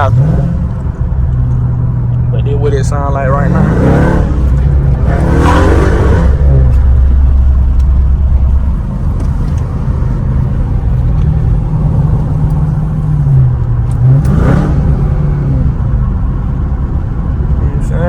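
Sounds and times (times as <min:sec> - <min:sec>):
car engine idling: 0:00.0 - 0:18.0
engine revving: 0:00.0 - 0:18.0.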